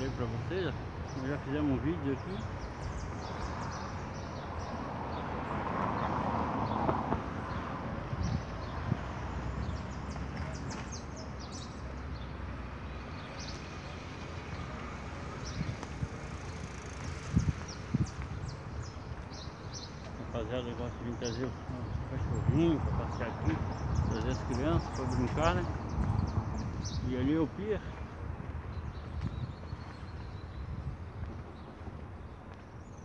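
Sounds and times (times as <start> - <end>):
birds chirping: 0.0 - 33.0
traffic rumble: 0.0 - 33.0.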